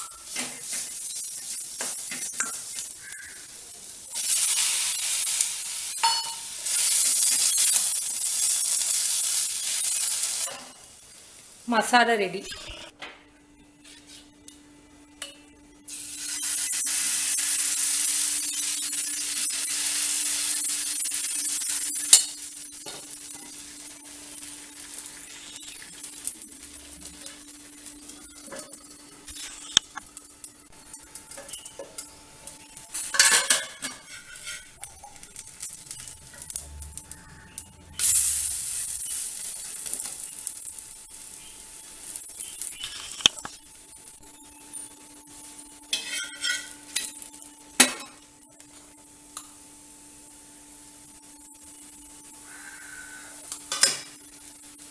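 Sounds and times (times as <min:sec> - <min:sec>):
batter sizzling on griddle: 0:00.0 - 0:11.9, 0:15.9 - 0:54.9.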